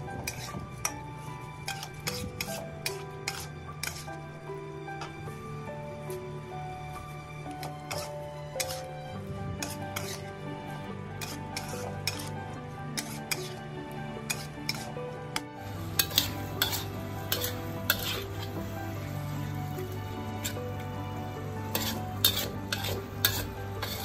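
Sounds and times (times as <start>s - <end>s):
metal spatula scraping a wok: 0.0s - 24.0s.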